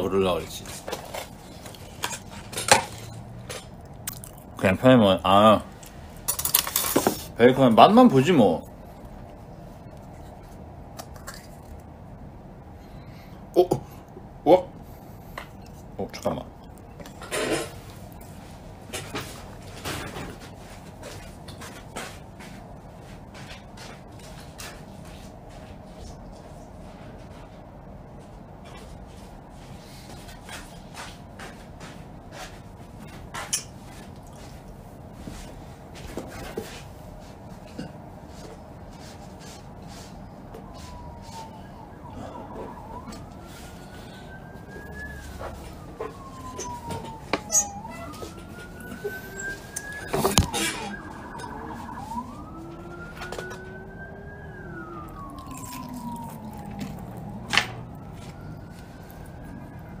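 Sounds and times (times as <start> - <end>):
emergency vehicle siren wailing: 0.0 - 60.0.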